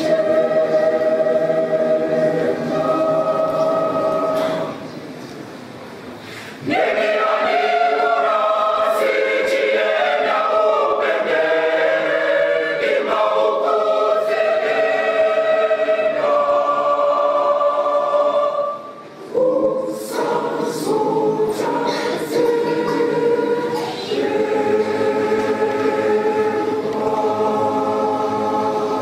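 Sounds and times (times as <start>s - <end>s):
mixed choir singing a hymn: 0.0s - 5.0s, 6.6s - 29.0s.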